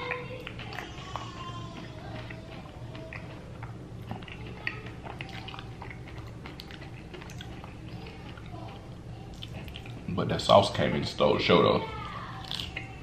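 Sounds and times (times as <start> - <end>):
person chewing and crunching: 0.0 - 10.2, 12.0 - 13.0
steady low hum: 0.0 - 13.0.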